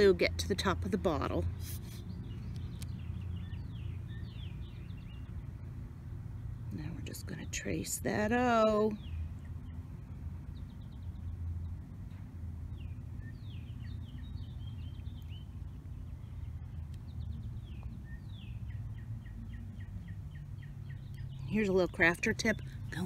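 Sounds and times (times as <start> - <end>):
low background rumble: 0.0 - 23.0
songbirds chirping: 0.0 - 23.0.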